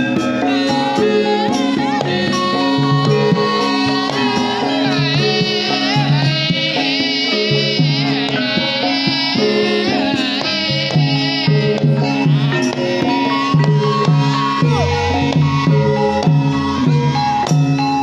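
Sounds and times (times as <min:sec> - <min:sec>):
hand drum strokes: 0:00.0 - 0:18.0
metallophones ringing: 0:00.0 - 0:18.0
woman singing ornamented melody: 0:00.0 - 0:18.0.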